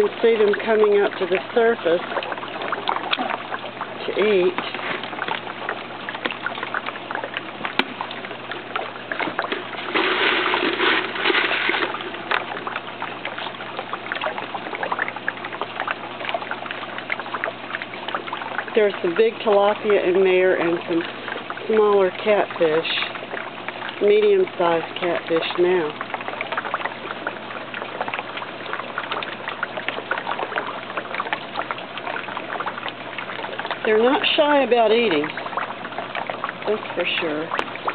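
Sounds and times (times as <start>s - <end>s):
fish splashing at water surface: 0.0s - 37.9s.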